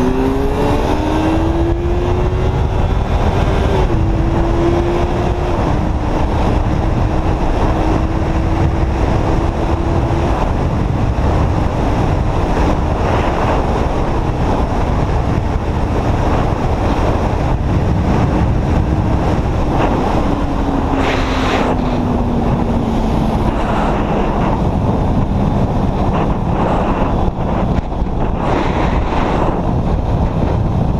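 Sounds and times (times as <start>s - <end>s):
motorcycle engine running: 0.0s - 30.9s
wind rushing over microphone: 0.0s - 30.9s.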